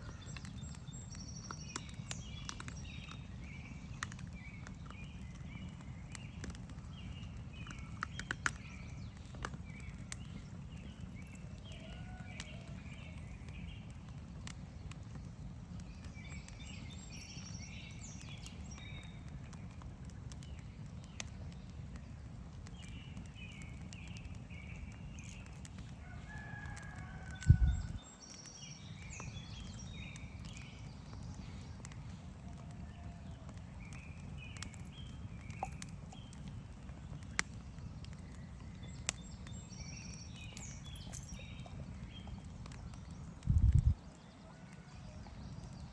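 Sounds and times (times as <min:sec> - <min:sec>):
birds calling: 0:00.0 - 0:45.9
campfire crackling and popping: 0:00.0 - 0:45.9.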